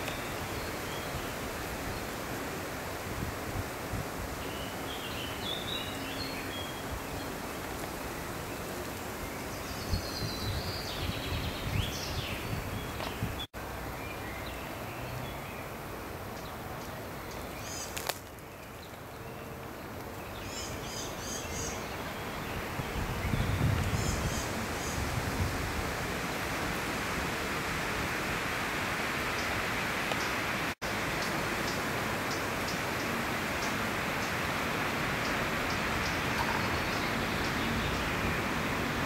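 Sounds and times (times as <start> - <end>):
songbirds chirping: 3.7 - 25.2, 28.5 - 39.0.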